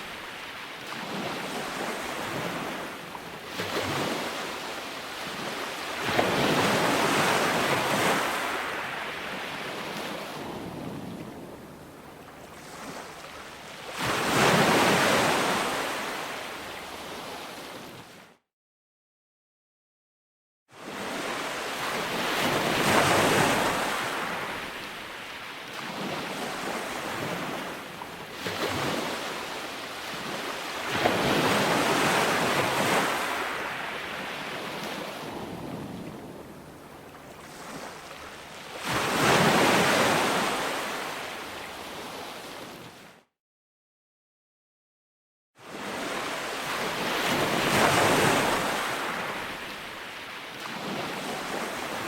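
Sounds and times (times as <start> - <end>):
ocean waves breaking on beach: 0.0 - 18.4, 20.8 - 43.3, 45.6 - 52.0.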